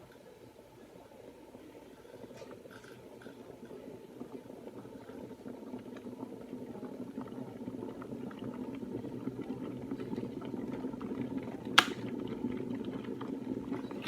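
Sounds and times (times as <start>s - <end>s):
electric kettle boiling: 0.0s - 14.0s.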